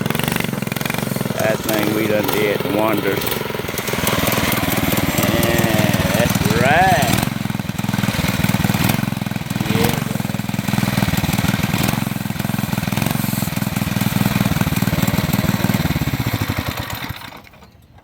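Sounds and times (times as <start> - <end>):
small gas engine running: 0.0 - 18.0.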